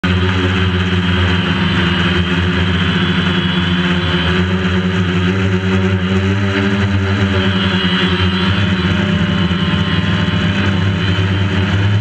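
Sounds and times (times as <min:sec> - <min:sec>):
drone motors and propellers humming: 0:00.0 - 0:12.0.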